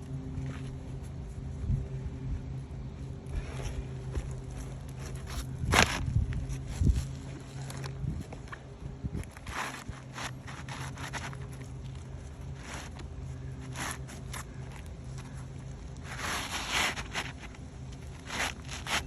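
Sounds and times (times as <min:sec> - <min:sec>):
steady low hum: 0:00.0 - 0:19.0
scraping on roofing shingles: 0:03.3 - 0:19.0.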